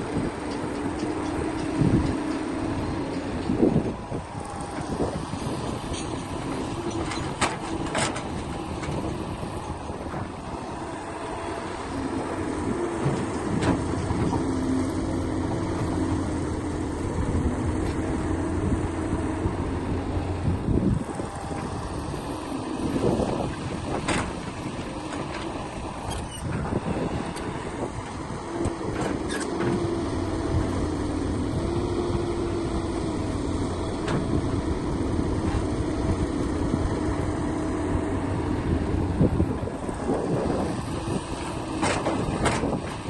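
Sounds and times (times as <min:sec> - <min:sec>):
heavy machinery engine running: 0:00.0 - 0:43.0.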